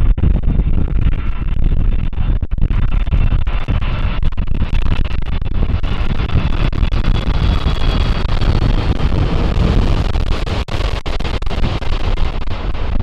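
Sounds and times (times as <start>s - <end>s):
jet engines deep rumble: 0.0s - 13.0s.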